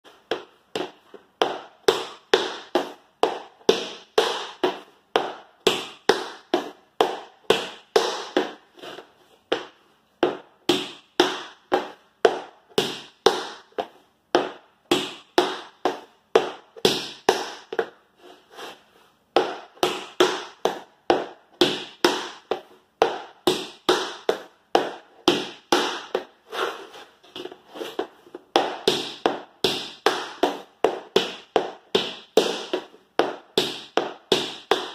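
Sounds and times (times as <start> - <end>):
tap shoes on wooden floor: 0.1 - 18.0, 19.3 - 34.9.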